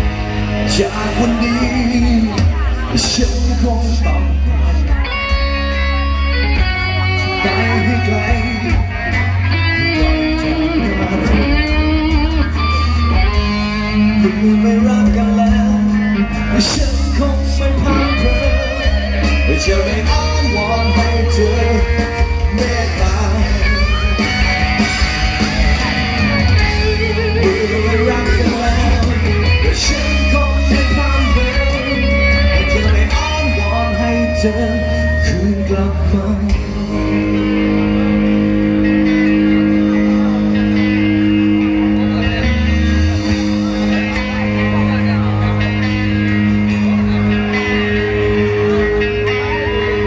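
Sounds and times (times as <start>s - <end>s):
bass guitar: 0.0s - 50.0s
electric guitar lead: 0.0s - 50.0s
rock drums: 0.0s - 50.0s.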